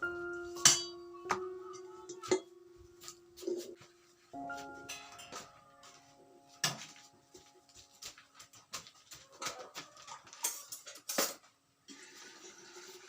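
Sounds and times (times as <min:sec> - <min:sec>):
faint background music: 0:00.0 - 0:11.9.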